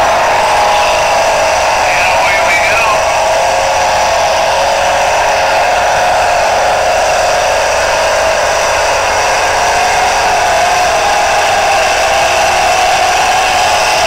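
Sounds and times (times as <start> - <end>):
diesel engine running at high revs: 0.0 - 14.0.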